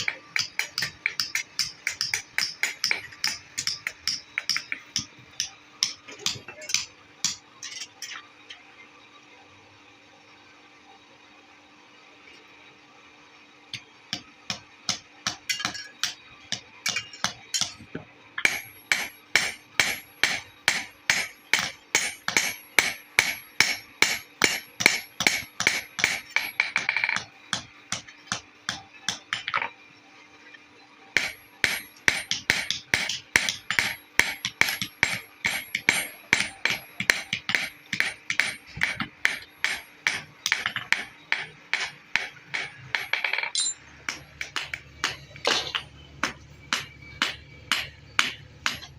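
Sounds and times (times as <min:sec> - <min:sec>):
hammer striking metal ringing: 0:00.0 - 0:07.9, 0:14.1 - 0:29.7, 0:31.2 - 0:48.9.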